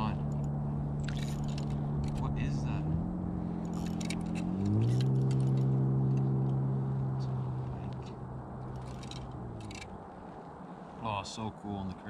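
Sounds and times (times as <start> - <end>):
engine humming: 0.0 - 11.2.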